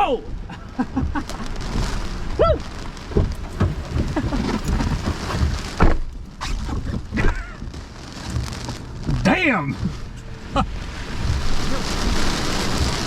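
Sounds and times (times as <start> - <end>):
rain: 0.0 - 13.0
wind gusts buffeting microphone: 0.2 - 13.0.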